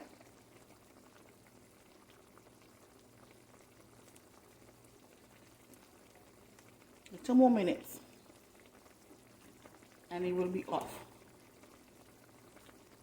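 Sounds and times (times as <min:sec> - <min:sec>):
soup bubbling in a pot: 0:00.0 - 0:13.0.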